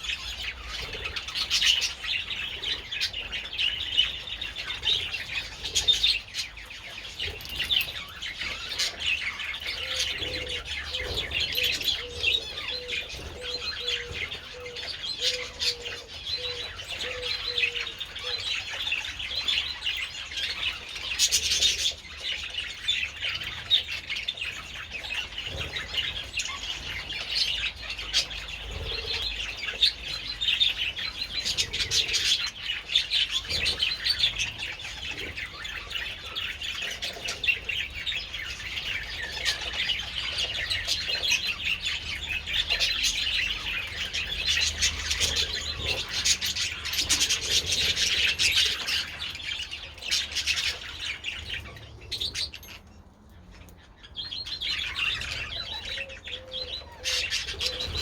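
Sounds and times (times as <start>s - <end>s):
budgerigars chattering: 0.0s - 52.9s, 54.0s - 58.0s.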